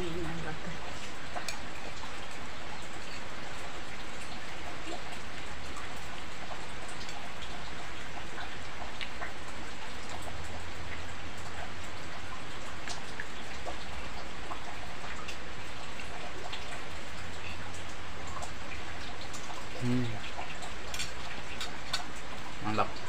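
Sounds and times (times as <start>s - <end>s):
drizzle and light rain: 0.0s - 23.0s.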